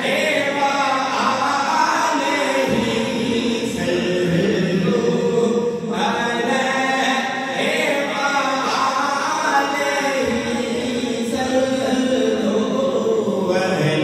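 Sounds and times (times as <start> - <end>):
man singing devotional melody: 0.0 - 14.0.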